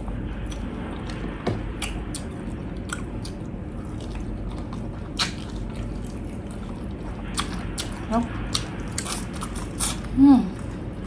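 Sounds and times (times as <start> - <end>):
chewing and biting: 1.8 - 11.0.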